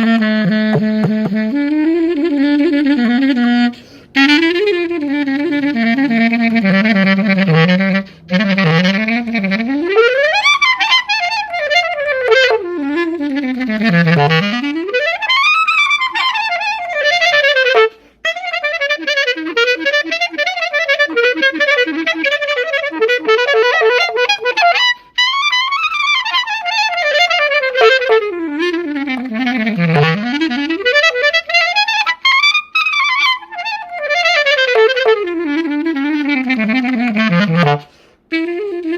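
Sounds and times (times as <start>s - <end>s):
clarinet runs: 0.0s - 38.9s.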